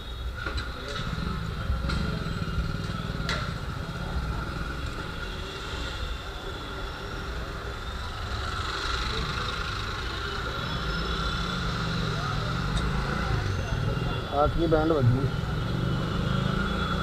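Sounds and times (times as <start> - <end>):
motorcycles idling and passing: 0.0 - 17.0.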